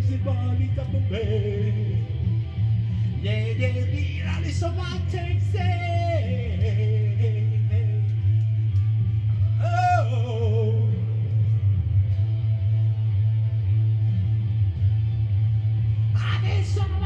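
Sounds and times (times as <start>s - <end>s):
low drone: 0.0s - 17.0s
rock music on electric guitar: 0.0s - 17.0s.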